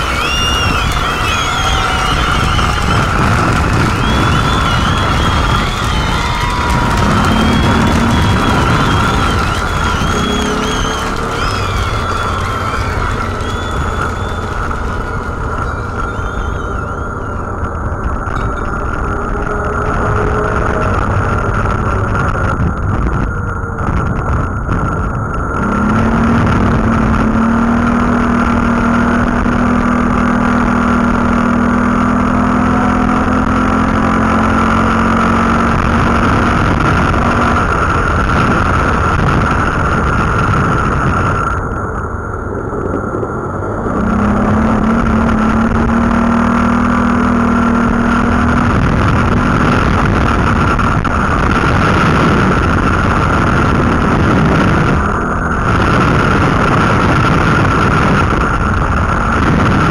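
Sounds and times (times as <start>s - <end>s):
quad engine running: 0.0s - 59.9s
wind on microphone: 0.0s - 59.9s.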